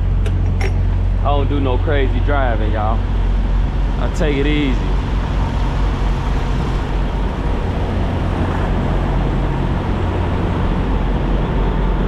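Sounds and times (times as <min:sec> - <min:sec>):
diesel truck engine running: 0:00.0 - 0:12.0
road noise: 0:00.0 - 0:12.0.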